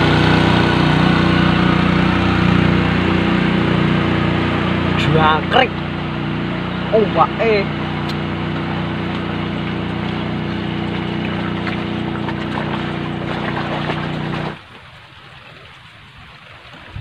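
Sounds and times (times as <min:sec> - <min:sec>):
faint lapping water: 0:00.0 - 0:17.0
small motorboat engine running: 0:00.0 - 0:17.0.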